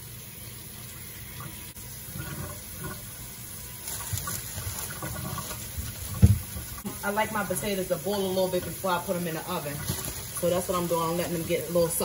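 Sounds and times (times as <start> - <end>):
kitchen faucet running: 0.0 - 12.0.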